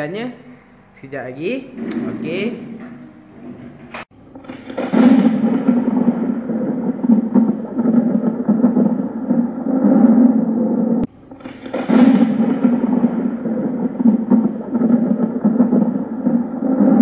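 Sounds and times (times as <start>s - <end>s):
loud rumbling sound effect: 1.6s - 17.0s.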